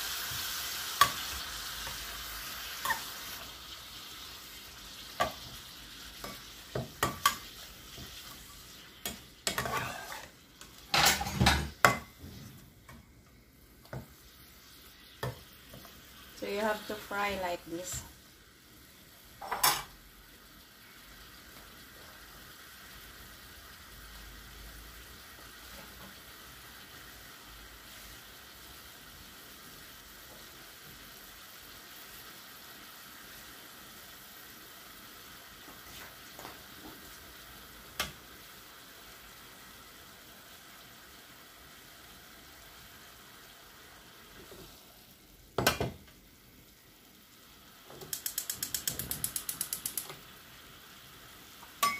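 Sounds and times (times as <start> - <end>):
meat sizzling in a pan: 0.0 - 51.9.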